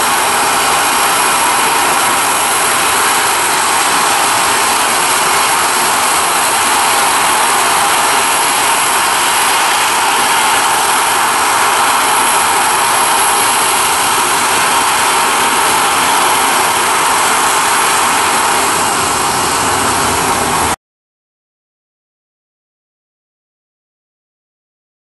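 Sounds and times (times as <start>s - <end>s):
jet engines at takeoff thrust: 0.0s - 20.8s.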